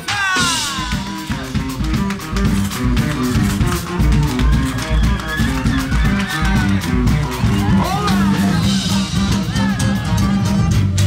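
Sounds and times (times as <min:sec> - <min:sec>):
live punk band playing: 0:00.0 - 0:11.0.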